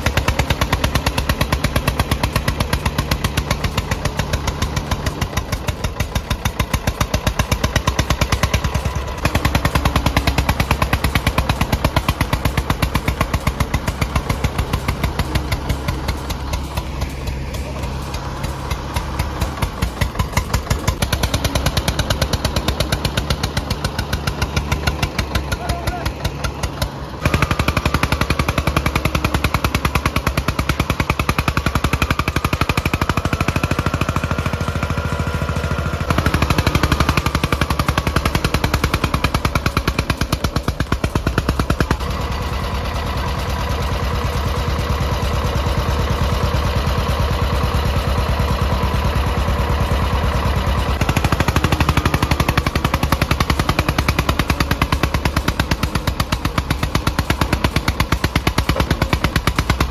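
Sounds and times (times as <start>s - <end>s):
diesel tractor engine chugging: 0.0s - 59.9s
second tractor engine: 0.0s - 59.9s.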